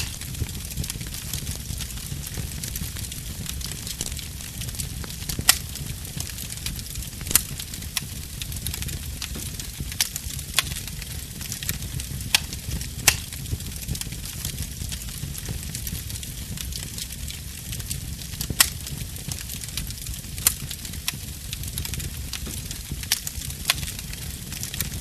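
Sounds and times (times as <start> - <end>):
bonfire flames rumbling: 0.0 - 25.0
fire crackling: 0.0 - 25.0
sharp fire pops: 0.0 - 25.0.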